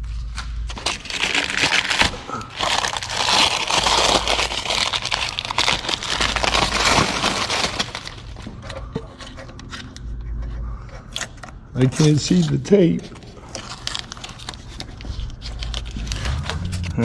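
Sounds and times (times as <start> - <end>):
masking tape and paper crumpling: 0.7 - 9.8, 11.8 - 17.0.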